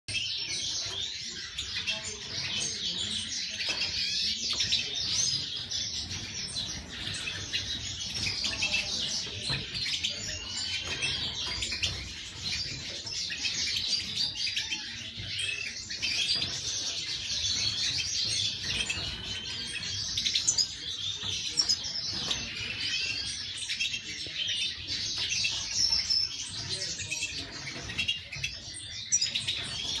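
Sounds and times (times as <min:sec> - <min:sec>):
finches chirping and twittering: 0:00.1 - 0:30.0.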